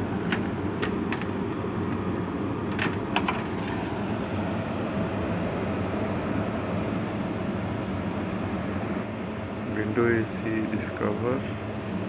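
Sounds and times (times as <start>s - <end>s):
air conditioner fan humming: 0.0s - 12.0s.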